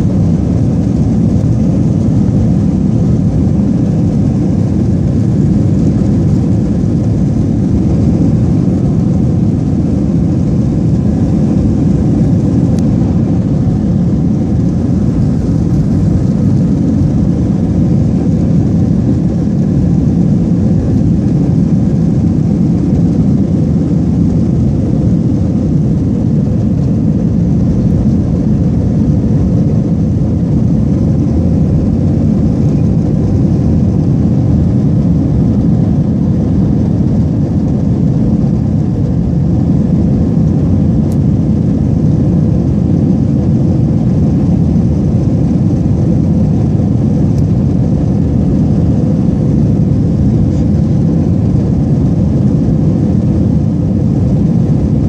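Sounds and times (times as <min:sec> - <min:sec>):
airliner engine rumble in cabin: 0:00.0 - 0:55.0
faint steady hum: 0:00.0 - 0:55.0.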